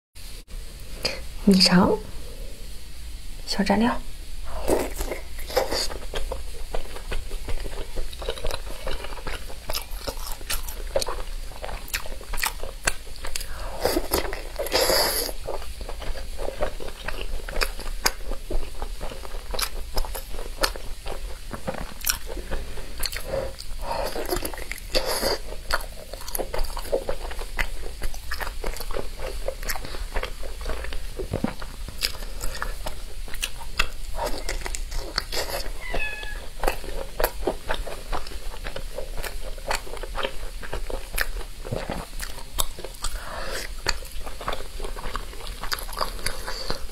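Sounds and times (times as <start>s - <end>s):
chewing with wet mouth clicks: 4.7s - 46.9s.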